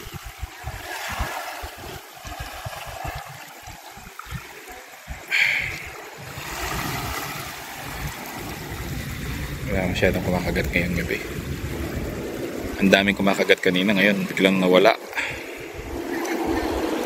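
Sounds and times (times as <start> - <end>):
wind buffeting microphone: 0.0 - 14.5, 15.2 - 17.0
steady rushing noise: 0.0 - 17.0.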